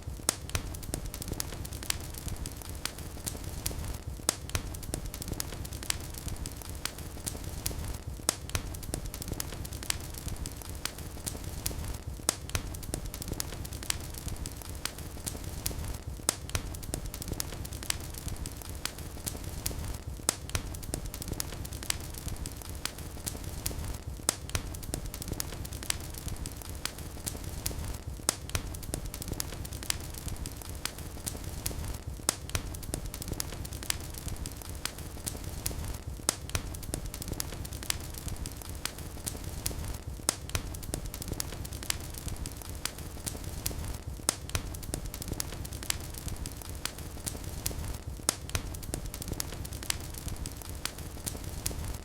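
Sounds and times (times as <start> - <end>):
wood fire burning: 0.0 - 52.0.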